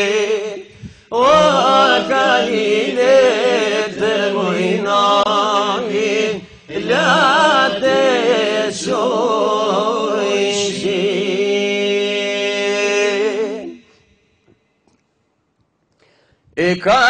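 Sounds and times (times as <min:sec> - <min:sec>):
man singing chant-like song: 0:00.0 - 0:13.8, 0:16.6 - 0:17.0.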